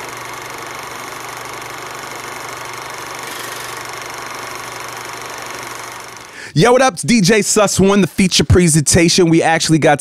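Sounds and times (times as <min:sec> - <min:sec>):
film projector whirring: 0:00.0 - 0:08.5.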